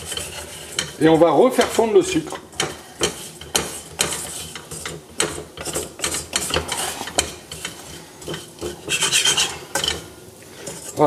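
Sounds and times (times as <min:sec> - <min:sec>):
spoon scraping nuts in saucepan: 0:00.0 - 0:11.0.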